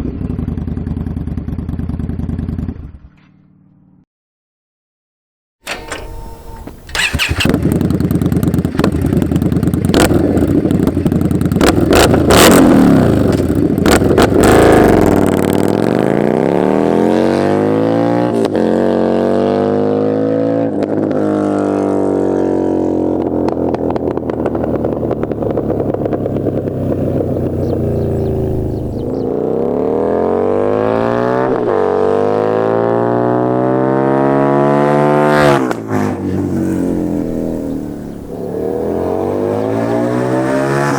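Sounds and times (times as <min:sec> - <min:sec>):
motorcycle accelerating through gears: 0:00.0 - 0:04.0, 0:05.6 - 0:40.9
motorcycle engine revving: 0:05.6 - 0:40.9.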